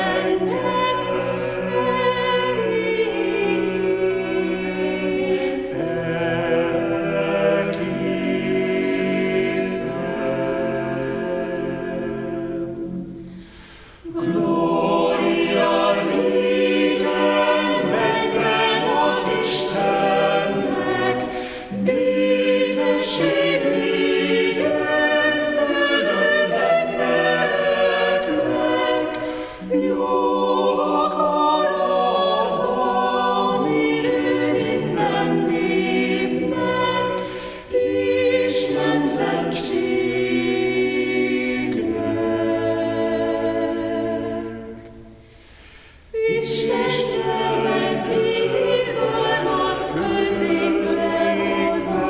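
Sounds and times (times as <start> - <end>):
vocal ensemble singing a cappella: 0.0 - 52.0.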